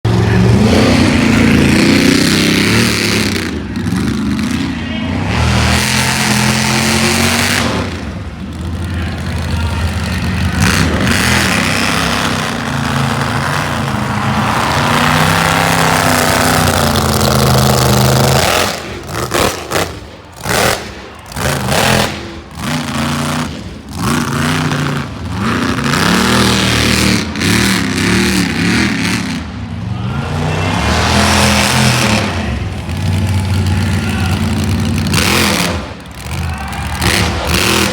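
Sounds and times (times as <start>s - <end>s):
monster truck engine revving: 0.1s - 37.9s.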